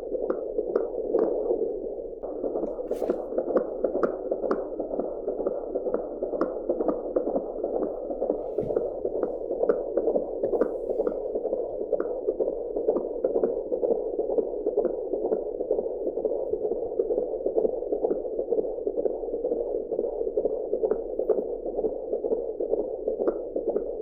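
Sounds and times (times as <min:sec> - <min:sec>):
fetal heartbeat whooshing pulse: 0:00.0 - 0:24.0.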